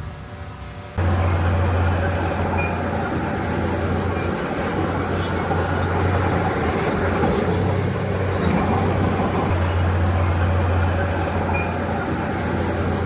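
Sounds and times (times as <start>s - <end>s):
bulldozer diesel engine humming: 1.0s - 13.0s
short high squeaks: 1.3s - 13.0s.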